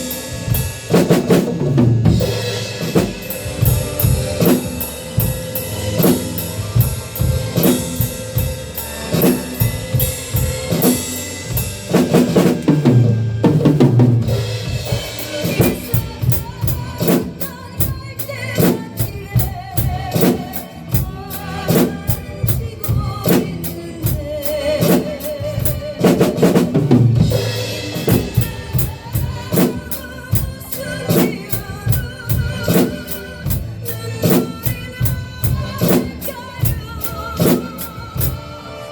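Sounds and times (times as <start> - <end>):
backing track music: 0.0 - 38.9
drum kit playing a beat: 0.0 - 38.9.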